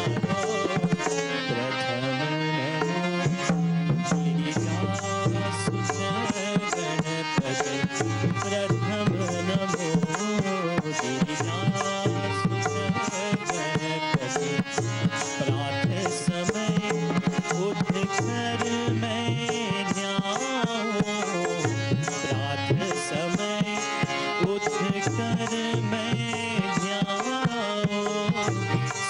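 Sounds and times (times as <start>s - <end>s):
harmonium melody: 0.0s - 29.0s
tabla rhythm: 0.0s - 29.0s.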